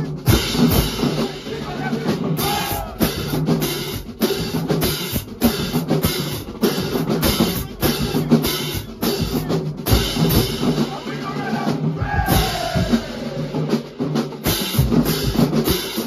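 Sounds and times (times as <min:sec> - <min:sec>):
marching drumline: 0:00.0 - 0:16.0.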